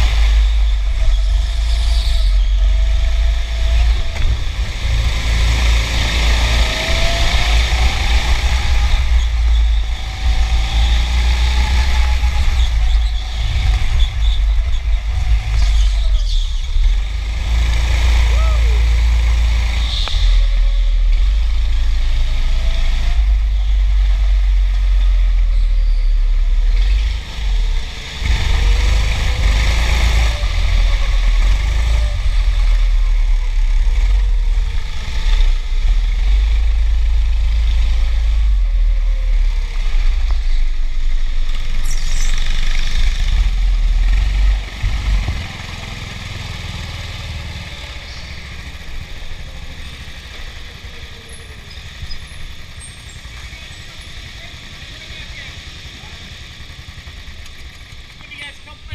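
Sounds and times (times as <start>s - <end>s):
go-kart motor running: 0.0s - 58.9s.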